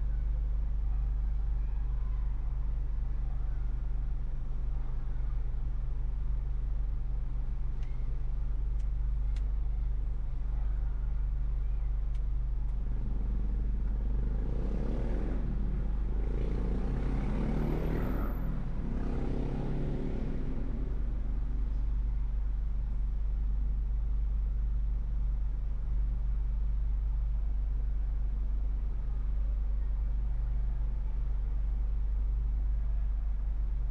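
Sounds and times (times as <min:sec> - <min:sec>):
car driving rumble: 0:00.0 - 0:33.9.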